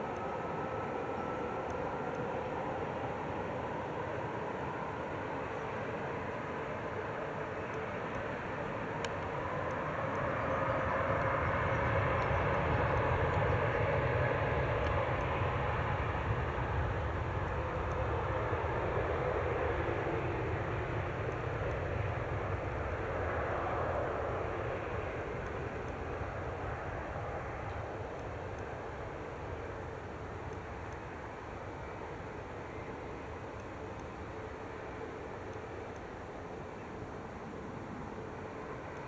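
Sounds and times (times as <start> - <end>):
jet airliner engines passing: 0.0 - 39.0.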